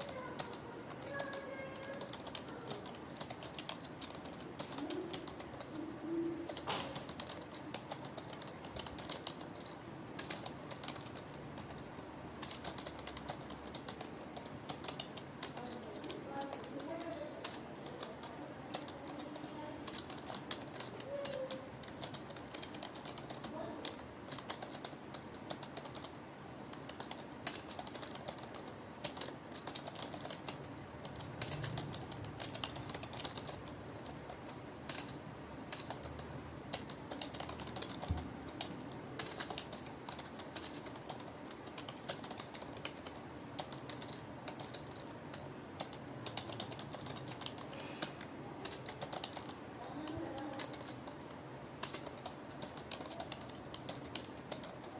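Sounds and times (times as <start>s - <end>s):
typing on computer keyboard: 0.0s - 54.9s.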